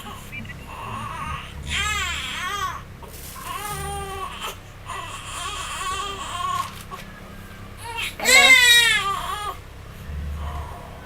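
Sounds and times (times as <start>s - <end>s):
infant crying: 0.0s - 6.9s, 7.8s - 11.0s.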